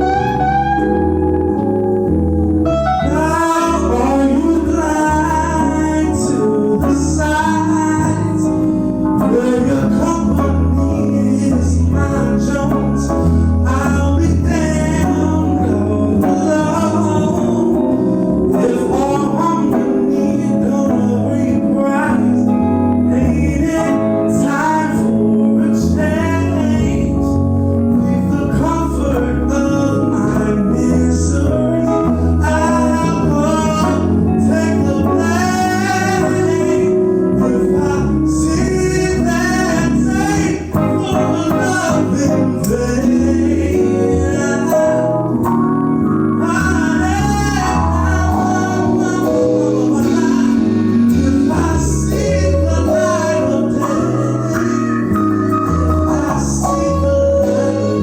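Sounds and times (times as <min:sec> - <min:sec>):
live band playing: 0:00.0 - 0:58.0
person singing: 0:00.0 - 0:58.0.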